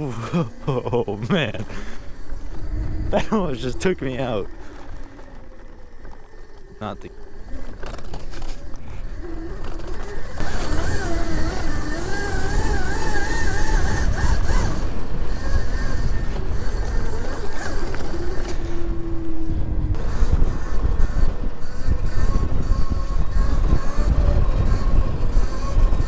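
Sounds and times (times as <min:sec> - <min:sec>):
electric motor whine: 0:00.0 - 0:26.0
wind rumble on microphone: 0:00.0 - 0:26.0.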